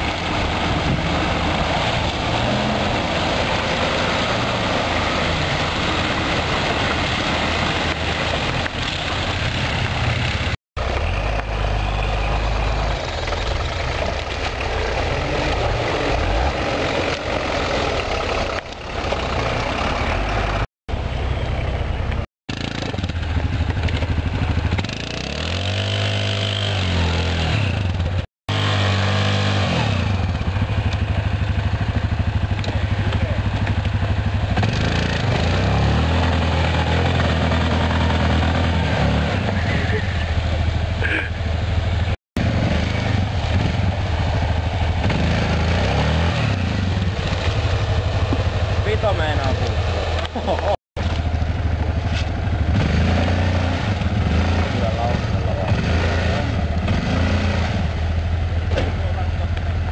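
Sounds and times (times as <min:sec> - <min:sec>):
engine revving: 0:00.0 - 0:21.8, 0:22.5 - 0:59.9
off-road vehicle engines running: 0:00.0 - 0:59.9.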